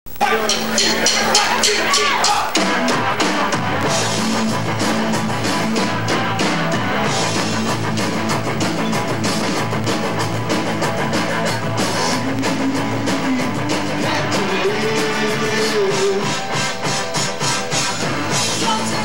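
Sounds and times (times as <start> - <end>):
punk rock band playing: 0.1 - 19.0.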